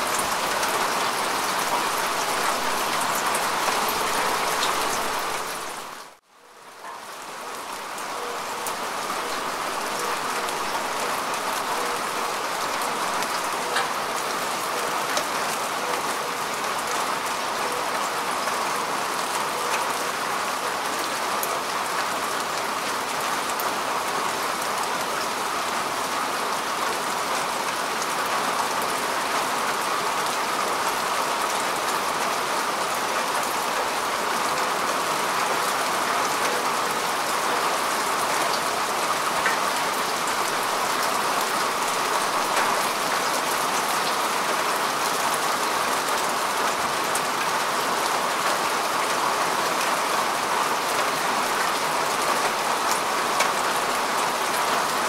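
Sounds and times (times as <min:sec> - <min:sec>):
rain falling on grass: 0:00.0 - 0:55.0.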